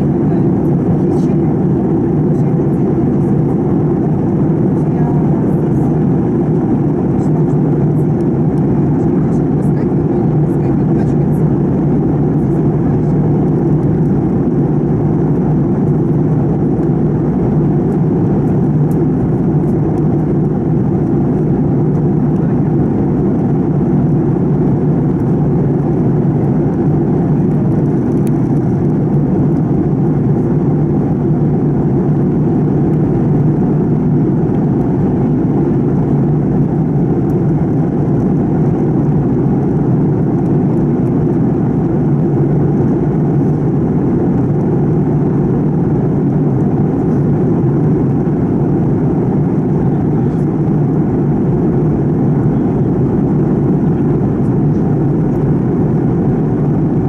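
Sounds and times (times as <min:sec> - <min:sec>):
airplane cabin drone: 0:00.0 - 0:57.0
low hum: 0:00.0 - 0:57.0.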